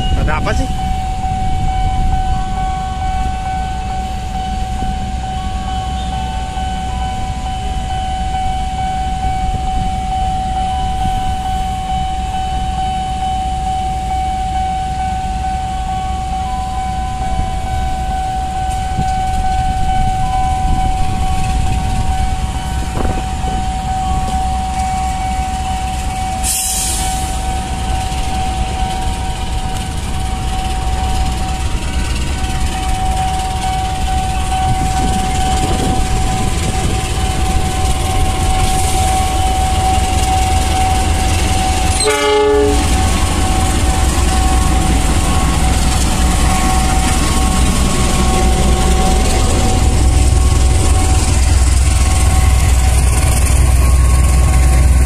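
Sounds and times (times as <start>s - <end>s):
locomotive engine rumbling: 0.0s - 55.0s
steady high tone: 0.0s - 55.0s.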